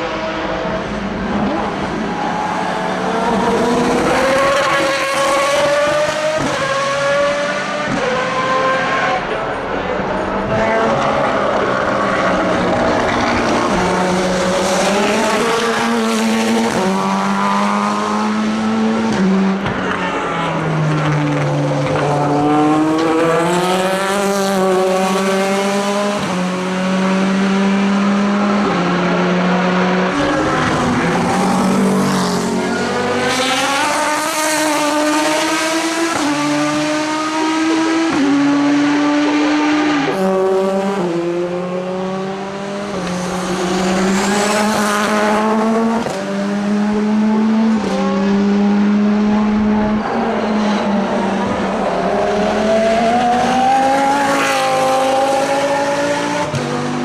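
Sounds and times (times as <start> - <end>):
racing car engines shifting gears: 0.0 - 57.0.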